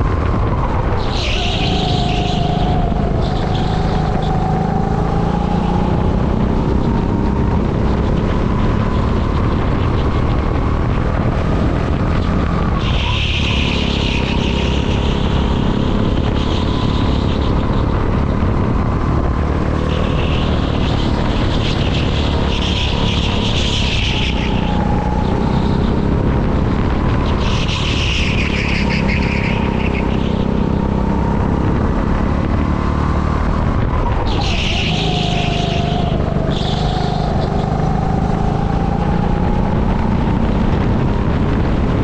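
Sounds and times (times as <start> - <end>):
kart engine revving: 0.0 - 42.0.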